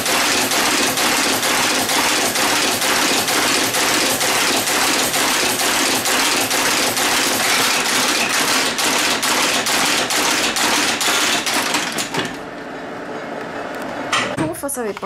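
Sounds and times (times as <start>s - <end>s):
machine clacking and clattering: 0.0s - 12.4s.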